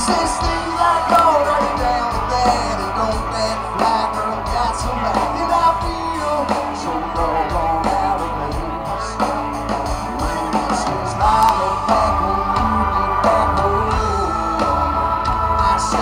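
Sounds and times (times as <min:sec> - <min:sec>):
live country band playing: 0:00.0 - 0:16.0
person singing: 0:00.0 - 0:16.0.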